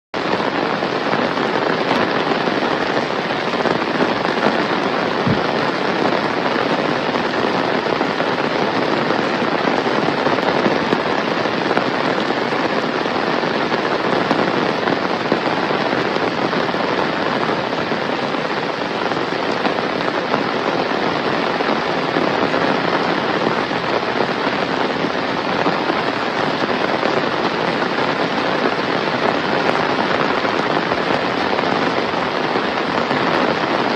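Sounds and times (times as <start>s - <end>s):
rain falling steadily: 0.2s - 33.9s.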